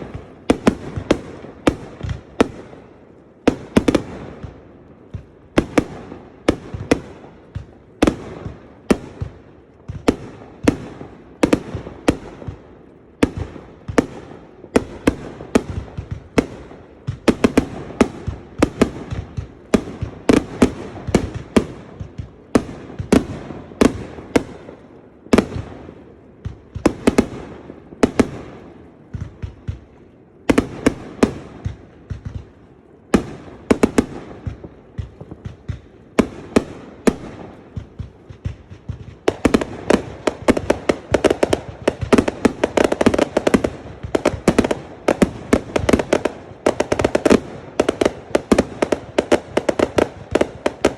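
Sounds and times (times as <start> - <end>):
fireworks bangs and pops: 0.0 - 50.9.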